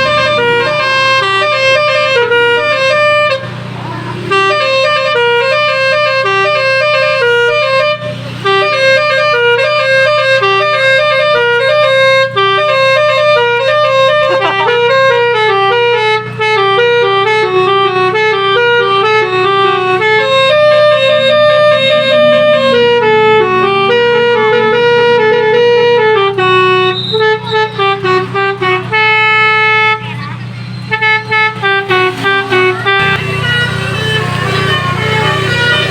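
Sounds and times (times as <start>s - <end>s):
multi-tone air horn melody: 0.0s - 35.9s.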